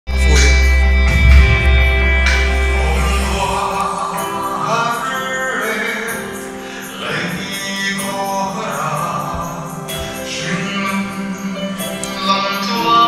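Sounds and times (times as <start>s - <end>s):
instrumental backing music: 0.1s - 13.0s
man singing gospel song: 2.3s - 13.0s.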